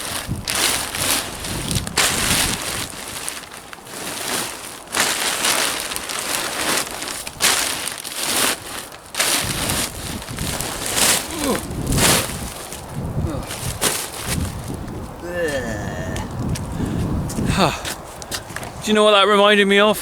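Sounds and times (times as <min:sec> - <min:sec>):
plastic sheeting crinkling: 0:00.0 - 0:17.2.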